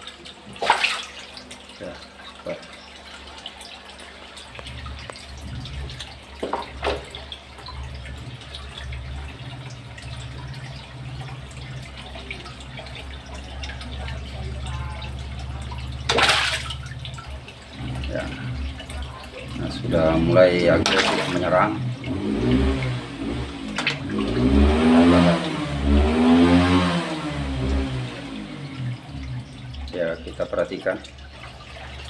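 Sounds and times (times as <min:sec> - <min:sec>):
water splashing and dripping: 0:00.0 - 0:32.0.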